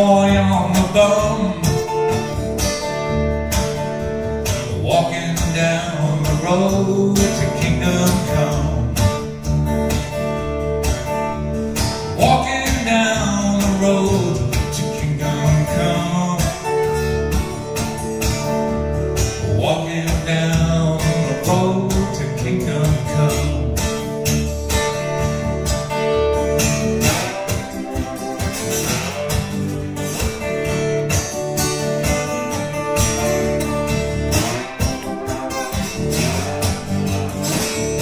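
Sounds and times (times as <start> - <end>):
acoustic guitar picking: 0.0 - 38.0.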